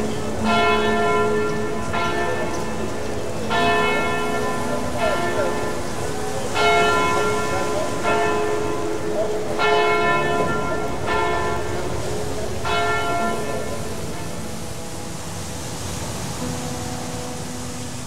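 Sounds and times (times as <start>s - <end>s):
church bell tolling: 0.0s - 18.0s
steady background hiss: 0.0s - 18.0s.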